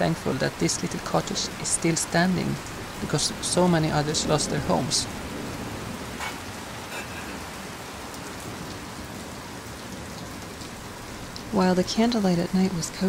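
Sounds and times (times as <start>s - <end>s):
rain pattering on a window: 0.0s - 13.0s.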